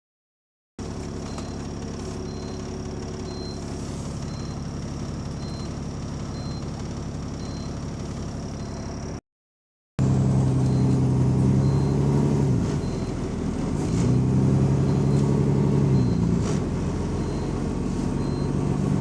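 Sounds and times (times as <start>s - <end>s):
bus diesel engine running: 0.8s - 9.2s, 10.0s - 19.0s.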